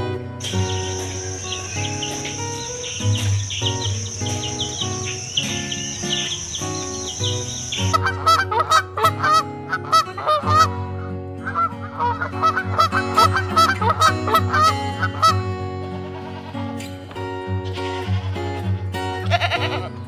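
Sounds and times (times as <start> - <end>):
background music: 0.0 - 20.0
flock of birds calling: 0.4 - 18.4.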